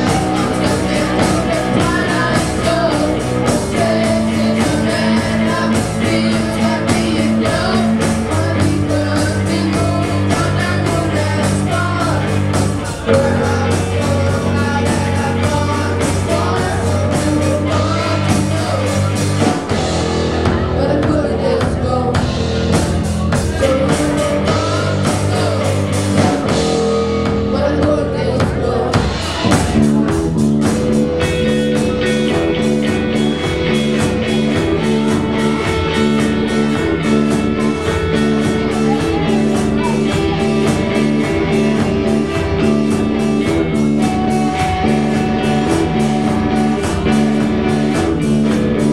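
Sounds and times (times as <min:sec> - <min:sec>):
person singing: 0:00.0 - 0:19.8, 0:20.4 - 0:48.9
rock band playing: 0:00.0 - 0:48.9.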